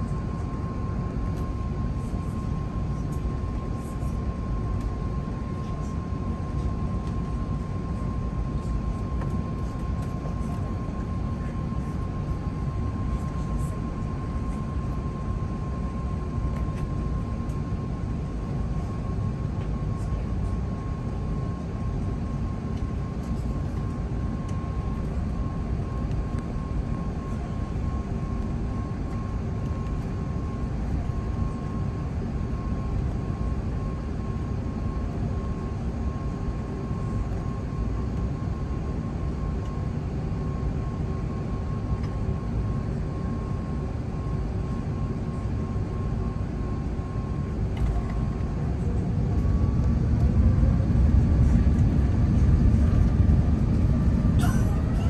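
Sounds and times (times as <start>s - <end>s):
airplane cabin low rumble: 0.0s - 55.0s.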